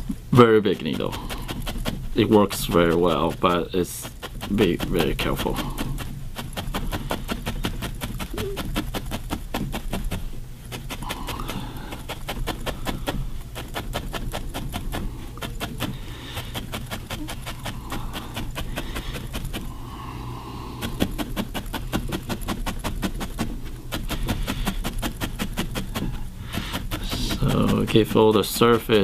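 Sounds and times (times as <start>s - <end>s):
felting needle stabbing wool: 0.0s - 29.0s.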